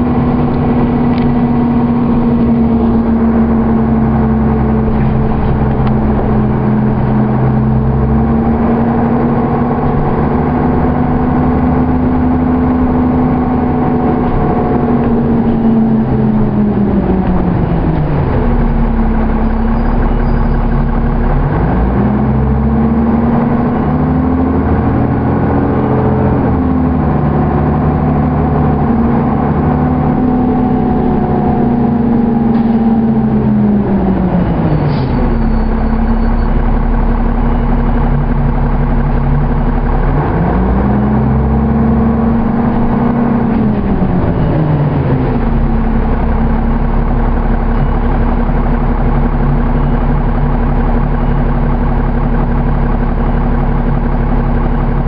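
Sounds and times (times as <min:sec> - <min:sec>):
bus diesel engine driving: 0:00.0 - 0:55.0.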